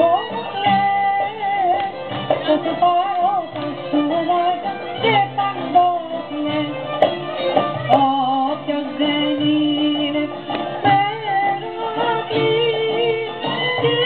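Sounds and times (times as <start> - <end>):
person singing: 0.0 - 7.2, 7.8 - 14.0
folk dance music with plucked strings: 0.0 - 14.0.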